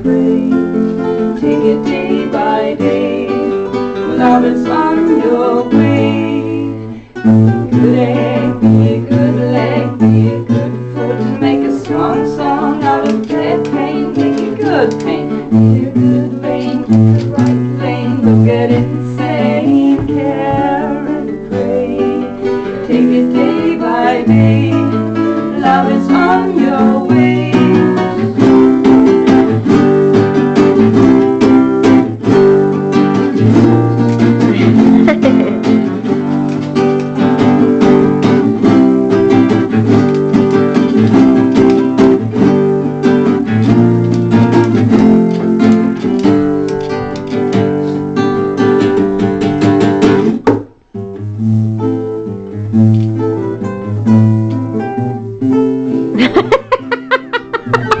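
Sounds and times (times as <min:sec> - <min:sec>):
acoustic guitar strummed and plucked: 0:00.0 - 0:58.0.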